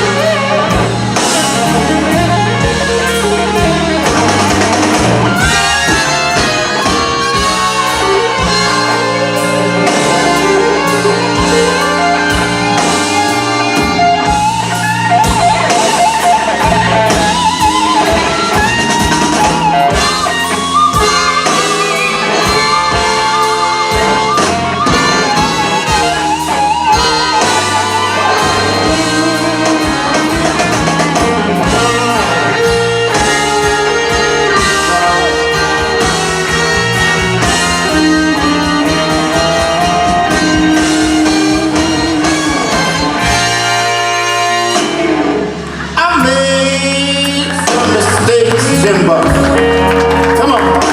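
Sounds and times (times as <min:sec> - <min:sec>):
blues band playing: 0:00.0 - 0:50.9
guitar lead with bent notes: 0:00.0 - 0:50.9.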